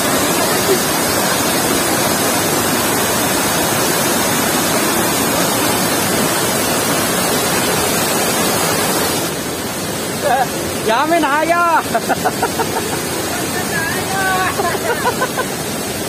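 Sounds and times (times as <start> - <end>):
waterfall pouring into a pool: 0.0 - 16.0.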